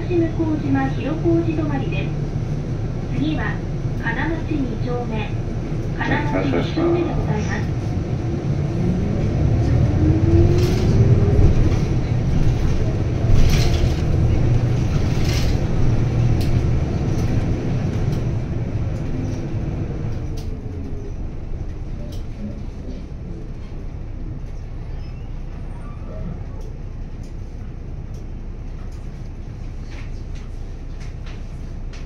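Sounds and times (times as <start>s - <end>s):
bus drivetrain whine: 0.0s - 32.0s.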